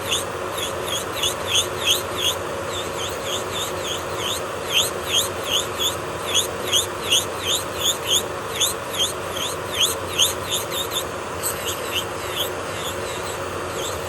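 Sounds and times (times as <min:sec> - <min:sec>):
high-pitched squeaky chirps: 0:00.0 - 0:14.0.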